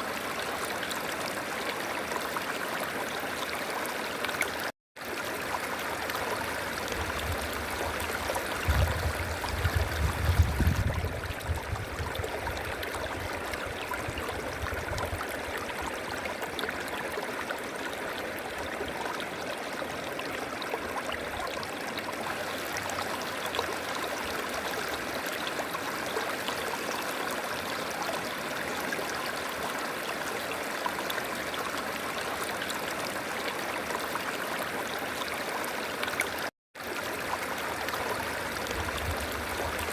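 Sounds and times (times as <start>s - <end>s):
river water flowing: 0.0s - 11.4s, 12.0s - 39.9s.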